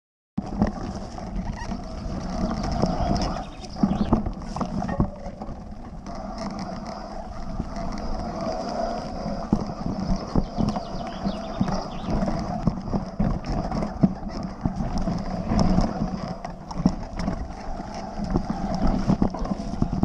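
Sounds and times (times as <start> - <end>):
tyre and wind rush: 0.4 - 20.0.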